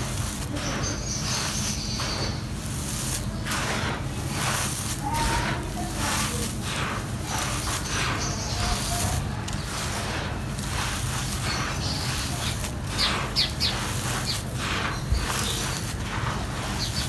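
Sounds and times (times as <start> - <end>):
dry dirt pouring and crunching: 0.0 - 17.0
steady low hum: 0.0 - 17.0.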